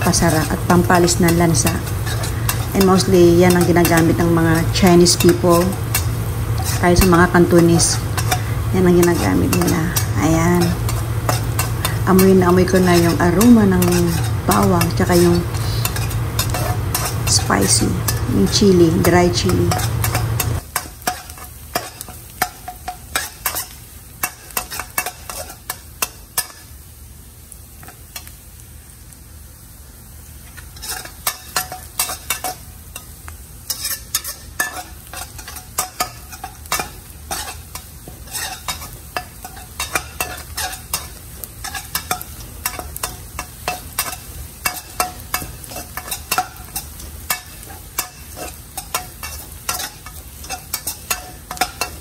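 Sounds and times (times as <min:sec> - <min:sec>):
metal spatula scraping a wok: 0:00.0 - 0:26.8, 0:30.4 - 0:52.0
food sizzling in hot oil: 0:00.0 - 0:52.0.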